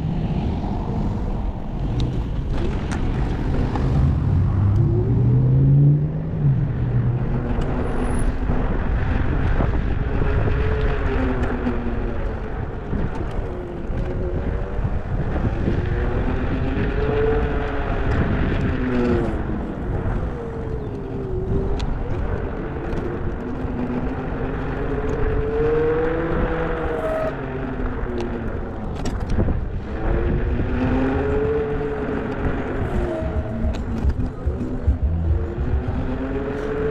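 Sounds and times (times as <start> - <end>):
car engine revving: 0.0 - 36.9
road rumble: 0.0 - 36.9.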